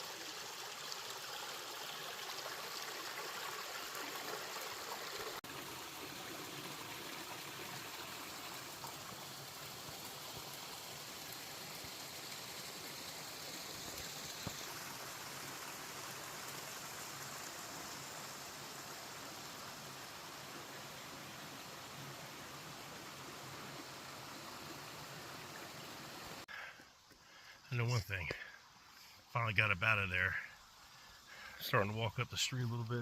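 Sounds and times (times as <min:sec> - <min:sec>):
stream of water running: 0:00.0 - 0:33.0.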